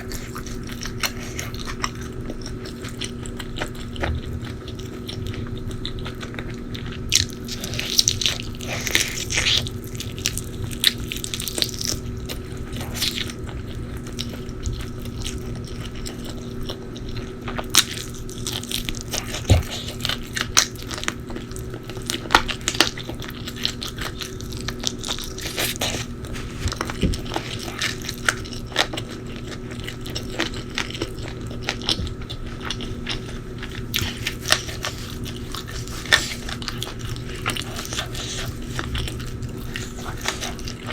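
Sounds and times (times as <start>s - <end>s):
crunchy bites and chewing: 0.0s - 40.9s
faint steady hum: 0.0s - 40.9s.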